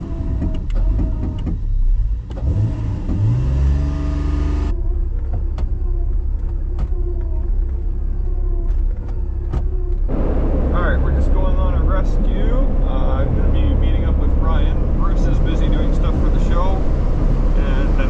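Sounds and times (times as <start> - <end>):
off-road engine revving: 0.0 - 8.3, 9.0 - 18.0.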